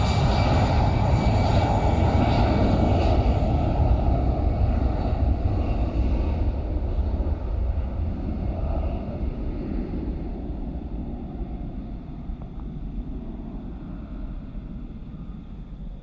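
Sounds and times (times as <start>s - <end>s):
jet airliner engines rumbling: 0.0s - 16.0s.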